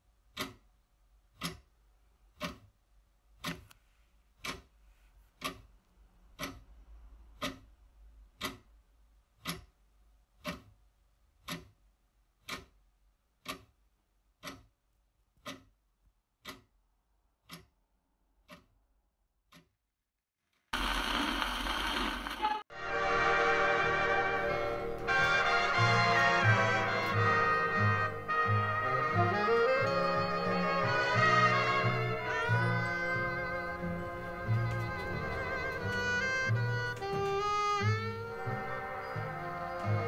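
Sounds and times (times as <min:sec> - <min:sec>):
clock ticking: 0:00.1 - 0:19.8, 0:25.0 - 0:40.0.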